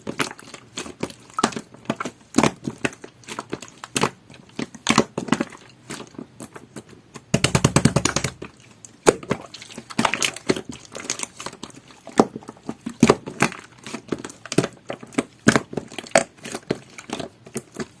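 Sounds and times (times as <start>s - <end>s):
slime squishing with sticky pops: 0.0s - 18.0s.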